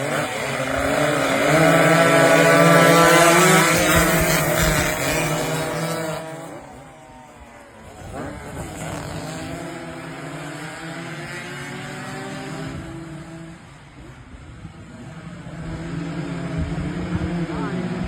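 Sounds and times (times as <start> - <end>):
two-stroke motorcycle engine revving: 0.0 - 6.7, 8.0 - 14.2, 15.0 - 18.0.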